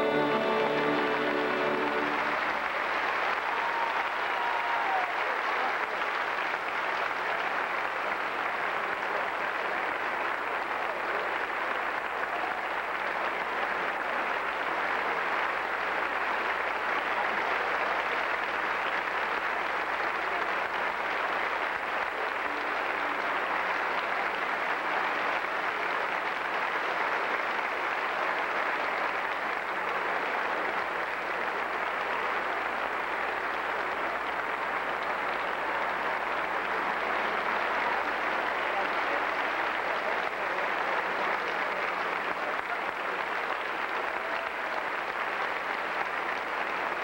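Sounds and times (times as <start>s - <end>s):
audience applauding: 0.0s - 47.0s.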